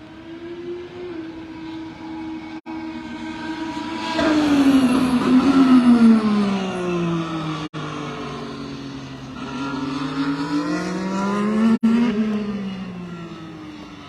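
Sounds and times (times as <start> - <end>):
race car engine on track: 0.0 - 14.0.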